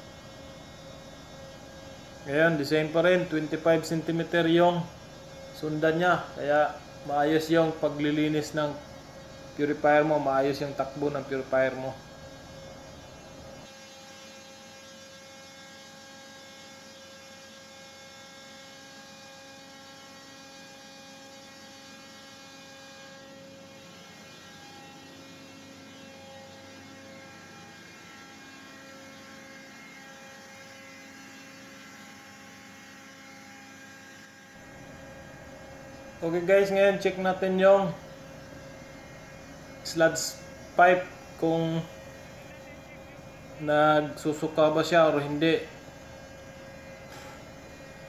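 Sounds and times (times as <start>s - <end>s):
engine room machinery hum: 0.0s - 48.0s.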